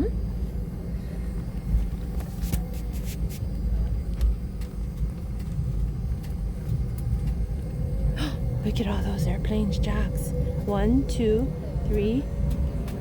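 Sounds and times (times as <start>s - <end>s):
aircraft engines and wheels rumbling: 0.0s - 13.0s
faint steady hum: 0.0s - 13.0s.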